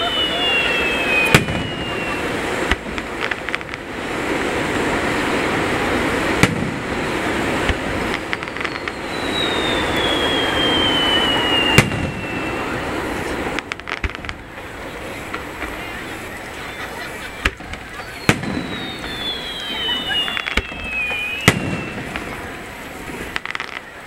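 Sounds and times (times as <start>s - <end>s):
falling firework whistle: 0.0s - 14.4s, 15.3s - 24.0s
fireworks booming: 0.0s - 24.0s
fireworks crackling: 0.0s - 24.0s.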